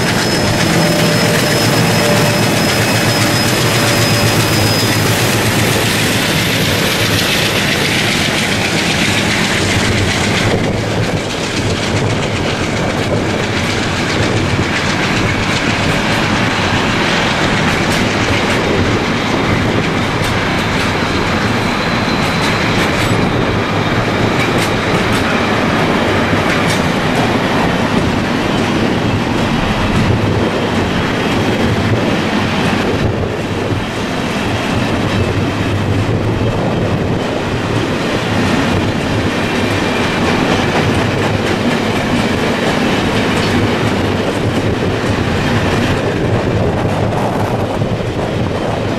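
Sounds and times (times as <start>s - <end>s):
freight train rumbling past: 0.0s - 48.9s
wheels clacking over rail joints: 0.0s - 48.9s.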